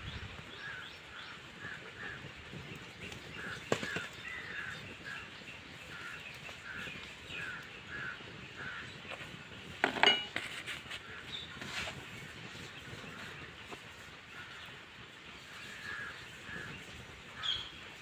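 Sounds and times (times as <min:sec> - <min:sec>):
birds calling: 0:00.0 - 0:18.0.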